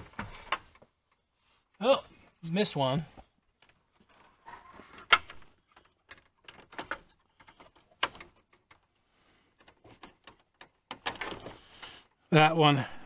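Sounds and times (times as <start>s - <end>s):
rustling: 0.0s - 12.2s.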